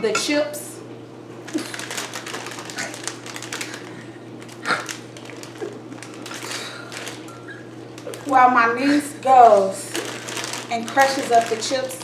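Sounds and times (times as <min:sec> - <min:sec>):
chip bag crinkling: 0:01.5 - 0:08.5, 0:09.3 - 0:12.0.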